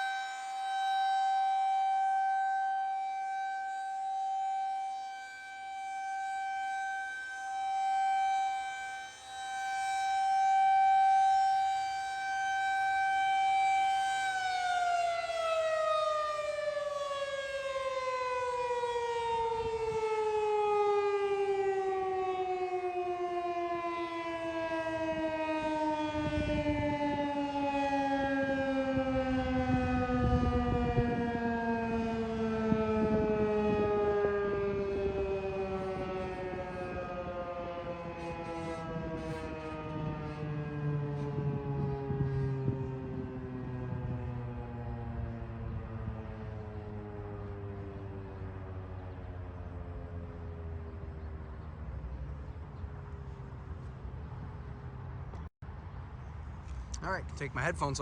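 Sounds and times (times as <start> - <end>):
rotating warning siren: 0.0 - 55.8.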